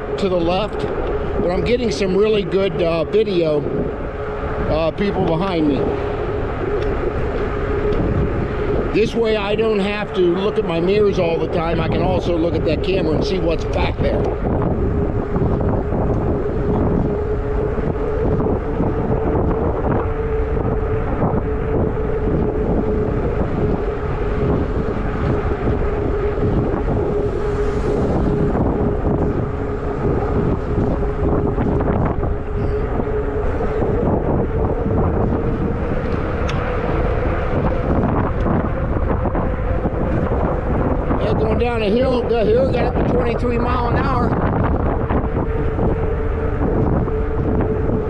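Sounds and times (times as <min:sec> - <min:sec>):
electric bike hum: 0:00.0 - 0:48.0
wind buffeting microphone: 0:00.0 - 0:48.0.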